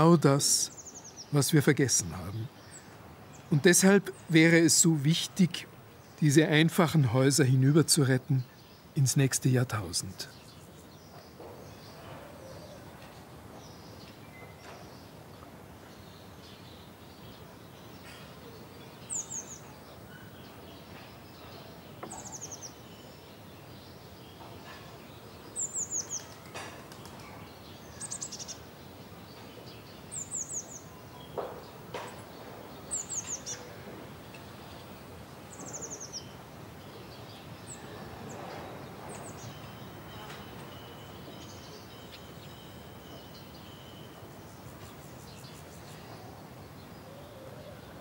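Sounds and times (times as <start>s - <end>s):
bird chirping: 0.0s - 48.0s
outdoor background noise: 0.0s - 48.0s.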